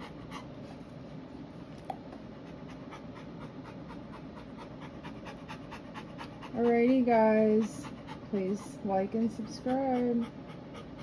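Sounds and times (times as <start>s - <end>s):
dog panting: 0.0s - 1.0s, 2.2s - 11.0s.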